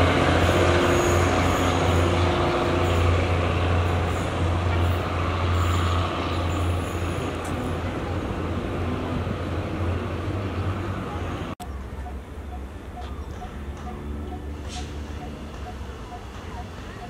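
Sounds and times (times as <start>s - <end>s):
diesel train engine hum: 0.0s - 17.0s
train track noise: 0.0s - 17.0s.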